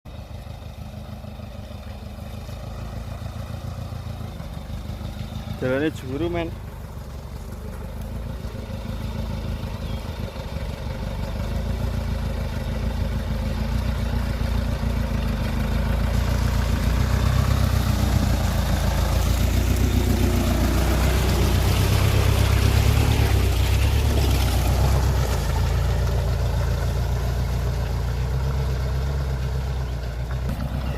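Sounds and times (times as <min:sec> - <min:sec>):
vehicle engine running: 0:00.1 - 0:30.9.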